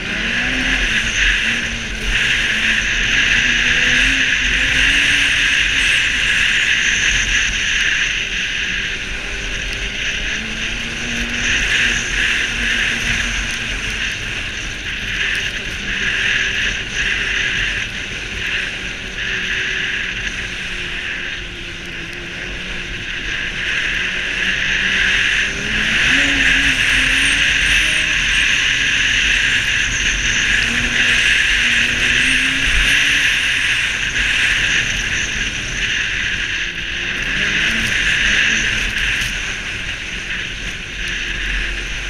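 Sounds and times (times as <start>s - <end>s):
snowmobile engine running: 0.0s - 42.0s
track noise: 0.0s - 42.0s
wind noise: 0.0s - 42.0s.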